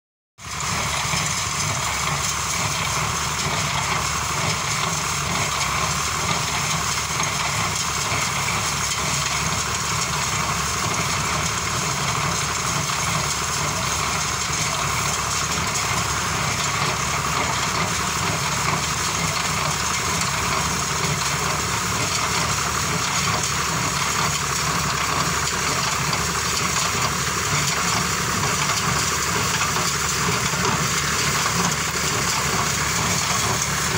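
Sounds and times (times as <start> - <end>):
baler machinery noise: 0.4 - 33.9
tractor engine running: 0.4 - 33.9.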